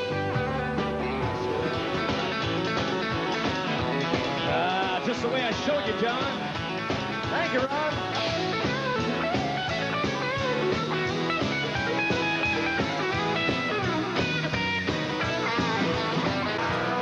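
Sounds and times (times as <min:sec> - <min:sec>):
bass: 0:00.0 - 0:17.0
drums: 0:00.0 - 0:17.0
electric guitar lead with bent notes: 0:00.0 - 0:17.0
strummed acoustic guitar: 0:00.0 - 0:17.0.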